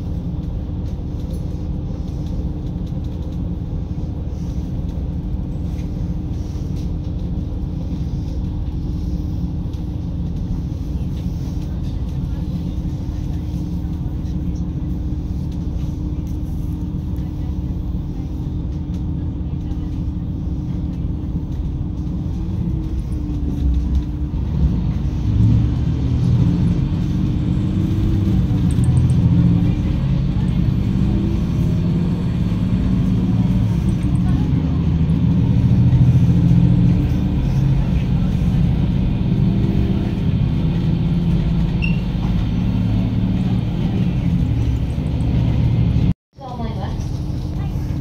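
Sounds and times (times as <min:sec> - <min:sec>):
railcar engine and wheels rumbling: 0:00.0 - 0:48.0.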